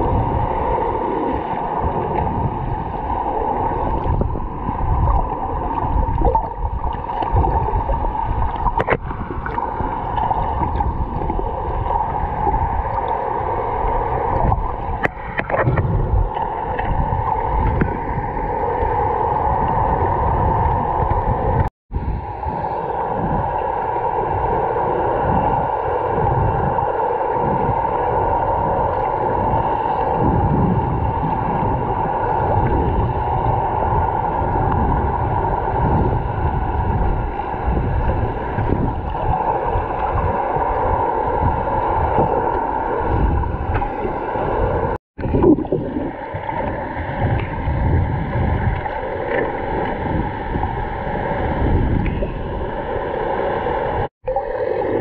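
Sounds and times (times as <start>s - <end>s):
muffled underwater water rush: 0.0s - 55.0s.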